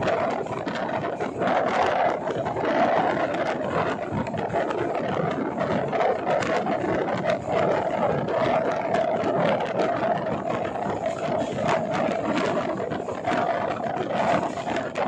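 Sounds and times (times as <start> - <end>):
train wheels running on rails: 0.0 - 15.0.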